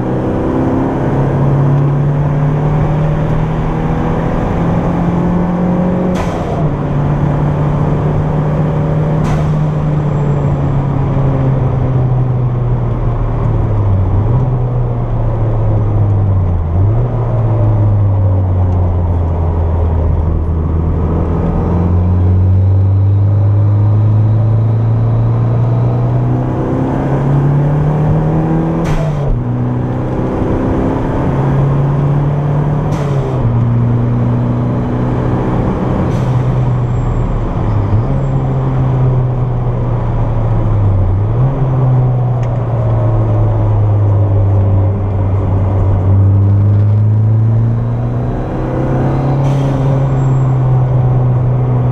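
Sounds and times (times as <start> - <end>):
turbocharged car engine revving: 0.0 - 12.3, 13.2 - 51.9.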